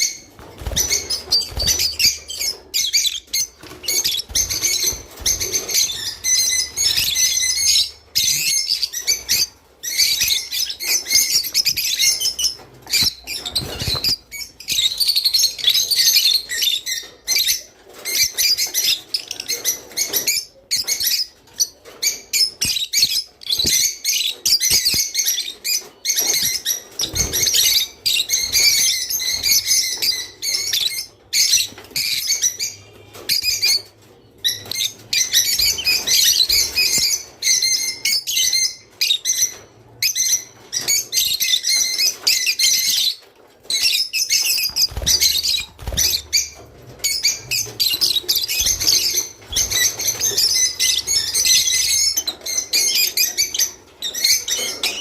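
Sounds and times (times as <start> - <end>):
lovebirds chirping and squeaking: 0.0 - 55.0.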